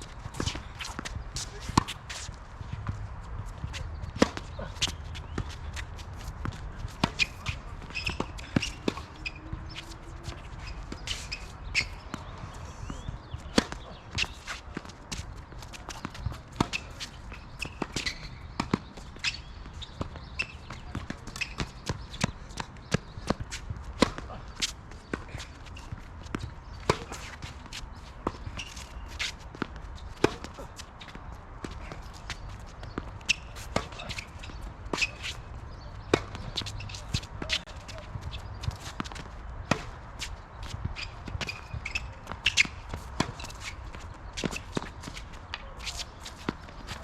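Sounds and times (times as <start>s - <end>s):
footsteps and shoe scuffs: 0.2s - 18.3s, 23.5s - 47.0s.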